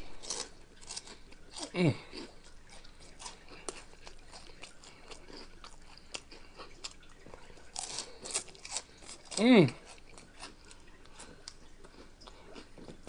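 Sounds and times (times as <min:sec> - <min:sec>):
chewing crunchy snacks: 0:00.0 - 0:13.0.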